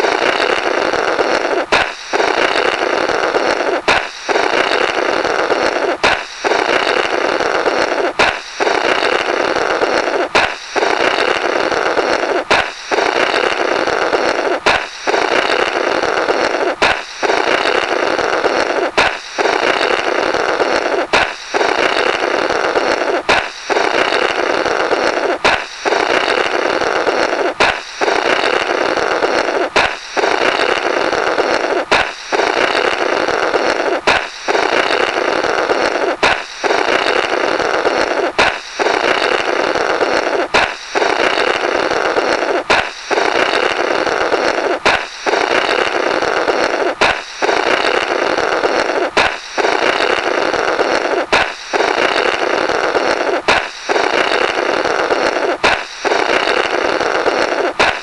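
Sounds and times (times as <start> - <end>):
balloon popping: 0.0 - 58.0
blowing through burst balloon: 0.0 - 58.0.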